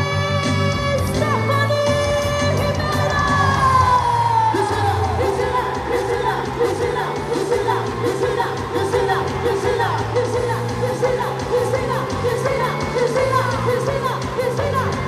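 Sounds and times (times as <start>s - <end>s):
dance music with bass line: 0.0s - 15.0s
person singing: 0.0s - 15.0s.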